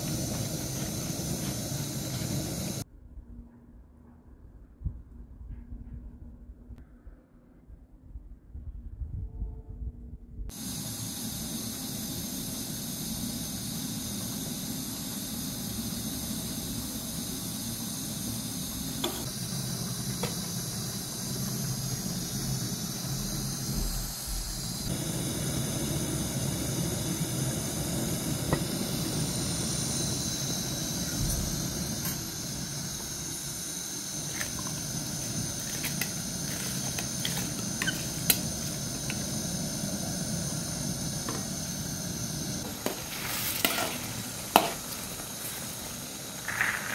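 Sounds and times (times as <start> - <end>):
high wavering whine: 0.0 - 2.8, 10.5 - 46.9
boiling water steam hiss: 0.0 - 2.9, 10.5 - 46.9.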